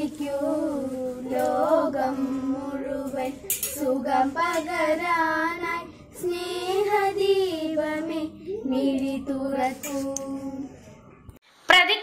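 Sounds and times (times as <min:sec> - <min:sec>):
girls singing together: 0:00.0 - 0:10.9.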